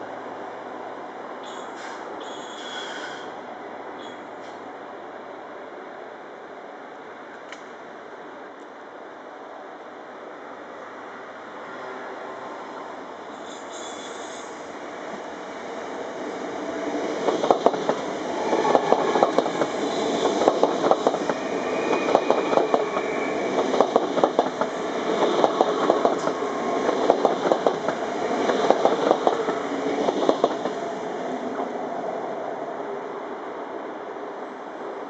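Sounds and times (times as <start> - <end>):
train rolling rumble: 0.0 - 35.0.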